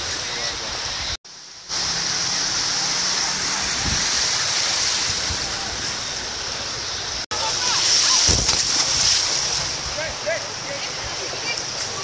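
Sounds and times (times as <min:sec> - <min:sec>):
floodwater rushing across road: 0:00.0 - 0:12.0.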